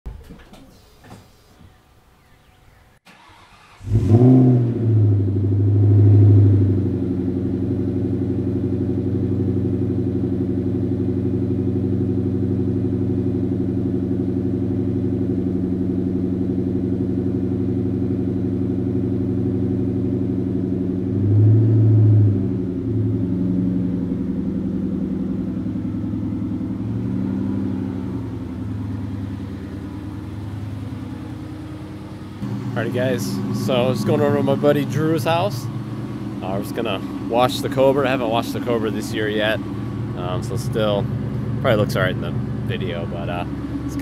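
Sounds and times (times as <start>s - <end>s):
car engine starting and idling: 2.9s - 44.0s.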